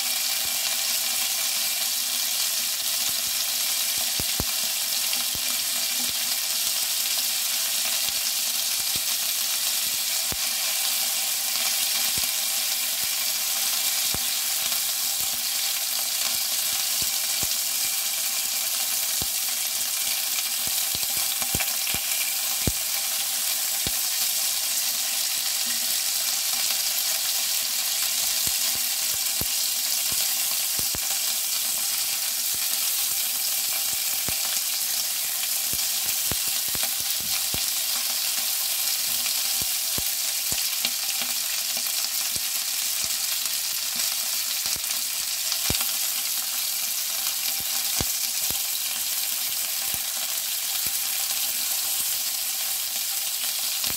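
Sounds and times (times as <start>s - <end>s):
meat sizzling in a frying pan: 0.0s - 53.9s.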